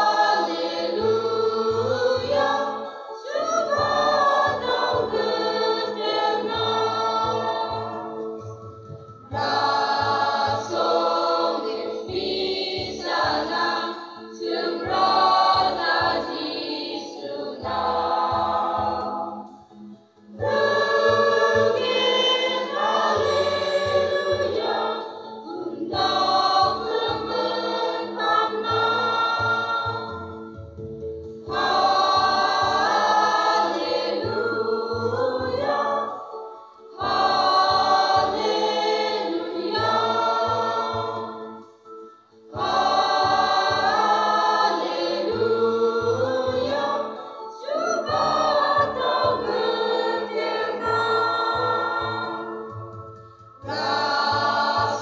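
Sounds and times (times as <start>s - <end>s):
choir singing: 0.0s - 8.6s, 9.2s - 30.6s, 31.4s - 55.0s.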